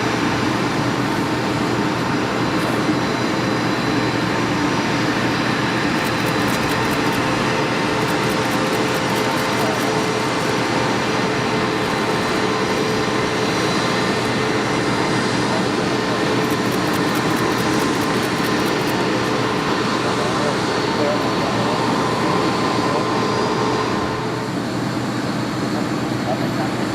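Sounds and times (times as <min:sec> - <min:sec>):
high engine whine: 0:00.0 - 0:26.9
jet engines running: 0:00.0 - 0:26.9.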